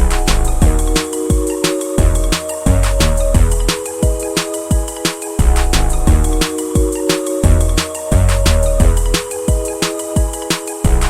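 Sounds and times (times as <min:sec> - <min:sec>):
hip hop beat with deep bass: 0:00.0 - 0:11.0
sustained synth chords: 0:00.0 - 0:11.0.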